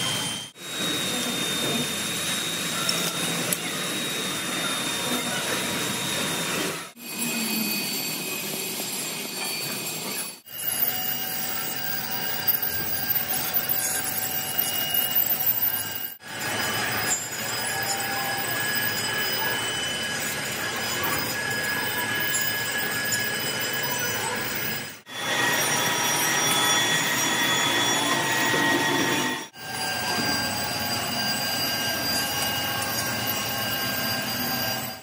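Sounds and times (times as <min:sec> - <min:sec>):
metalworking machinery whining: 0:00.0 - 0:35.0.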